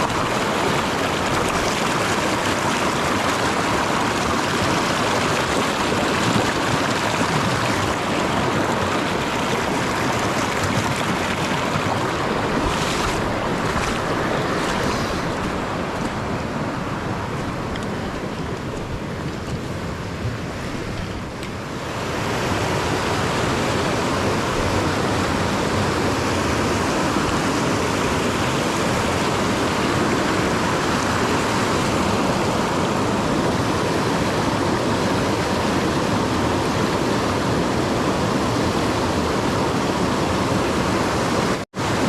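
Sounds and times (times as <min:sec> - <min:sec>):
mountain creek rushing: 0:00.0 - 0:42.0.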